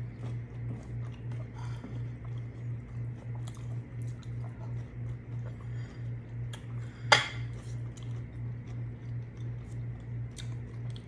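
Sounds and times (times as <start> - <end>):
low pulsing hum: 0.0 - 11.0
soft chewing: 0.0 - 11.0.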